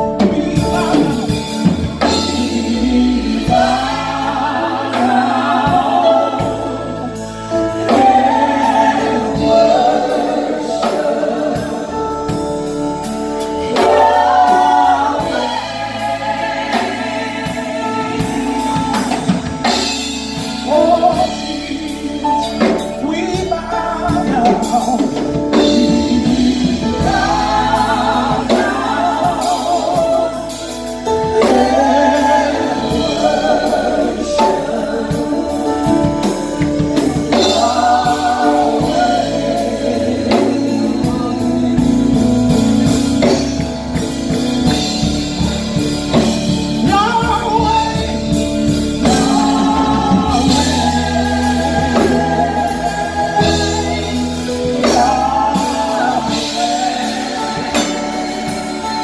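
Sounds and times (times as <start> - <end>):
drum kit: 0.0 - 59.0
electric bass guitar: 0.0 - 59.0
singers on microphones: 0.0 - 59.0.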